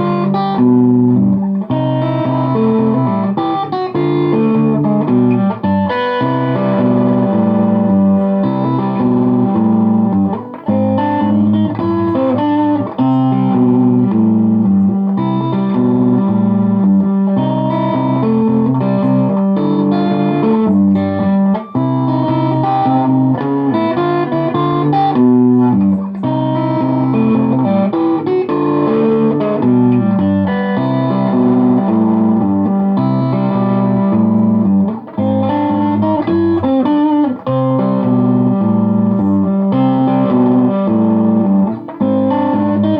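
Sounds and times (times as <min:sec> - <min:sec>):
electric guitar ragtime tune: 0:00.0 - 0:42.9.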